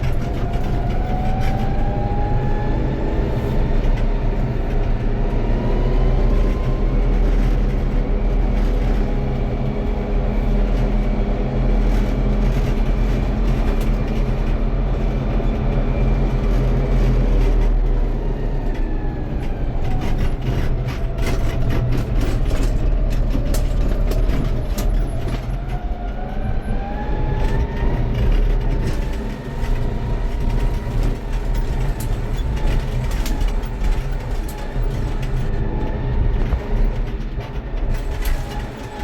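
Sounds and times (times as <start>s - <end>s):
tiller knocks and rattles: 0.0s - 1.8s, 3.2s - 39.0s
tractor engine running: 0.0s - 39.0s.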